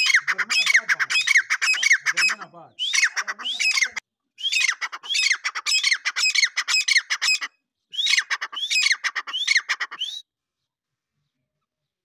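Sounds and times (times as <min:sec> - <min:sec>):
bird calling rapid notes: 0:00.0 - 0:10.2.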